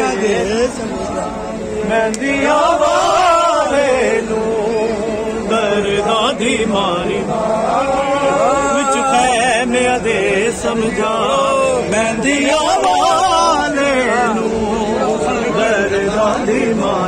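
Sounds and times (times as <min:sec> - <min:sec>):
voices chanting: 0:00.0 - 0:17.0.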